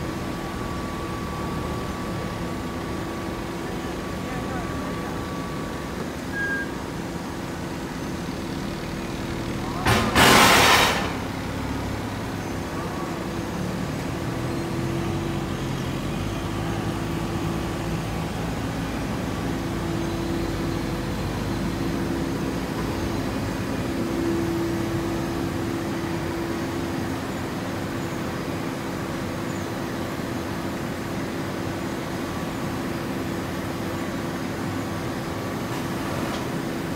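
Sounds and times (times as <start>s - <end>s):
forklift engine running: 0.0s - 36.9s
hay baler machine hum: 0.0s - 36.9s.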